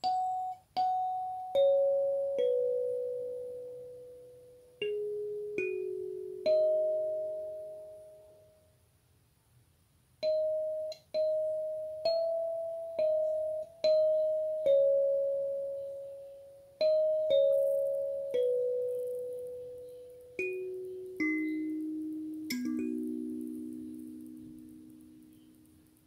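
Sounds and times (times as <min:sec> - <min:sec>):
kalimba notes plucked: 0:00.0 - 0:08.4, 0:10.2 - 0:26.0.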